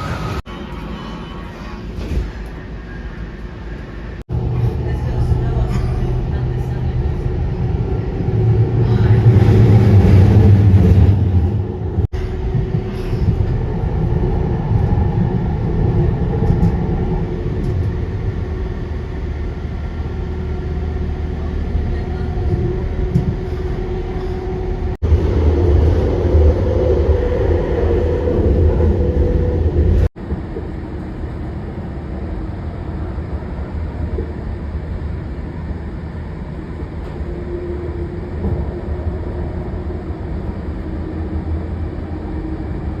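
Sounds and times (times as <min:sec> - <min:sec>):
aircraft engines rumbling: 0:00.0 - 0:43.0.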